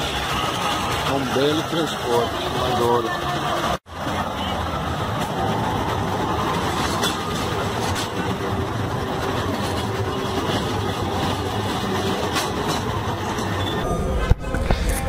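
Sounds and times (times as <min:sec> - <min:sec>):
street traffic: 0:00.0 - 0:15.0
tram rumbling on rails: 0:00.0 - 0:15.0.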